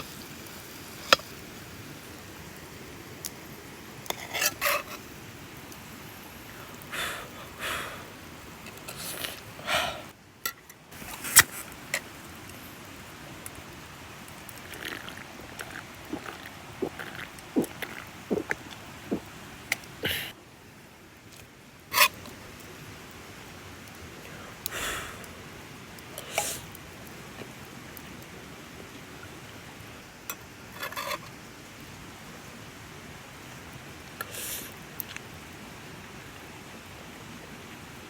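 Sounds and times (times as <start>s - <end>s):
background hiss: 0.0s - 38.0s.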